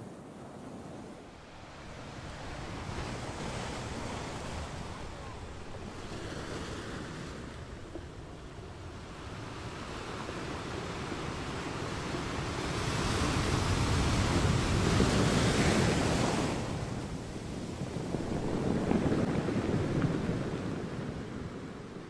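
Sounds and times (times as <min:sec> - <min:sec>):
ocean waves washing in: 0:00.0 - 0:22.0.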